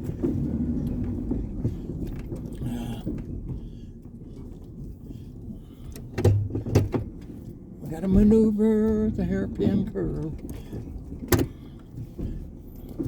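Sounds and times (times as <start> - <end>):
truck body knocks and rattles: 0.0 - 13.0
truck engine and tyre rumble: 0.0 - 13.0.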